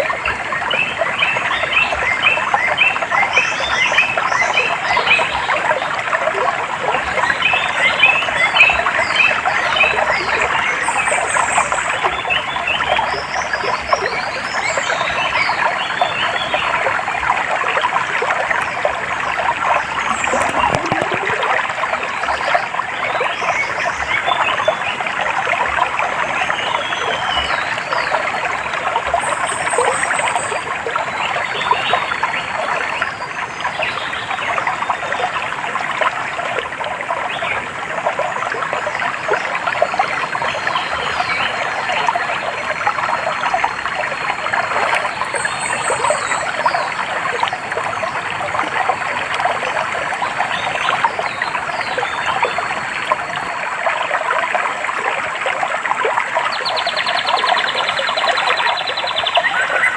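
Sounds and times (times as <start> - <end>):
frogs and birds chirping: 0.0 - 59.9
water trickling: 0.0 - 59.9.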